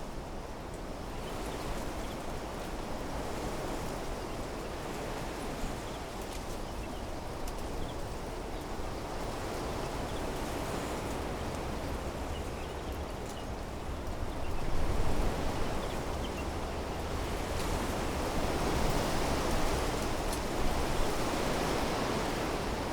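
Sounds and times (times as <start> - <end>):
wind blowing through trees: 3.1 - 22.9.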